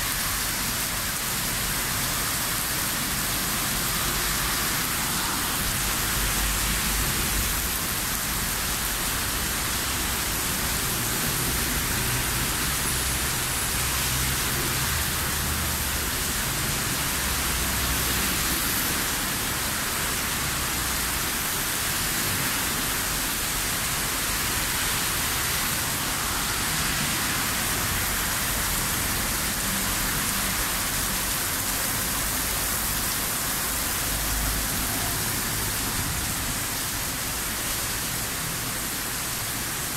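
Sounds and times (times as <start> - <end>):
heavy rain pouring on street: 0.0 - 39.9.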